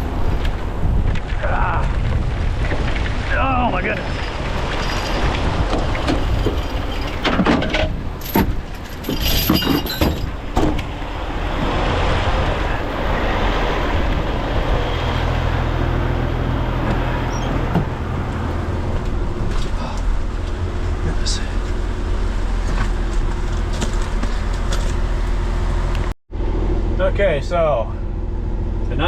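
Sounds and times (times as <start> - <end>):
truck engine running: 4.2 - 29.0.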